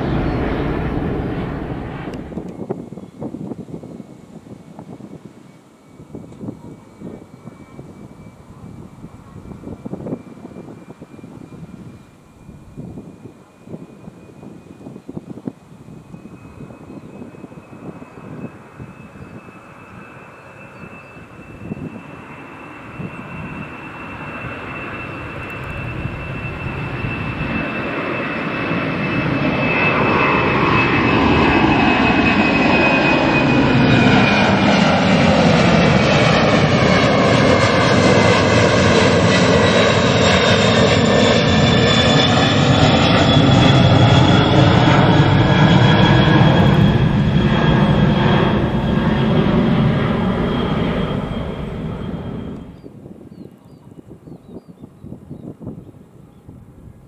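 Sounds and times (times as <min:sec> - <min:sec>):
high fan whine: 0:00.0 - 0:57.0
jet engines passing overhead: 0:00.0 - 0:57.0.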